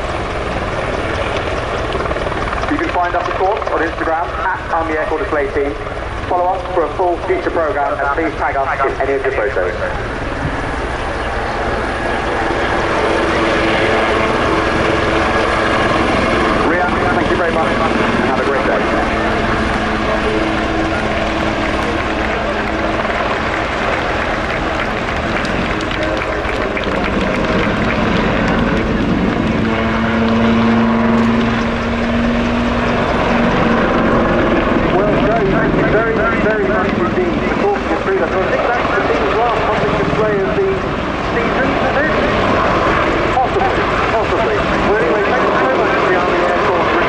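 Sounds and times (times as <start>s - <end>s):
helicopter rotor and turbine: 0.0s - 47.0s.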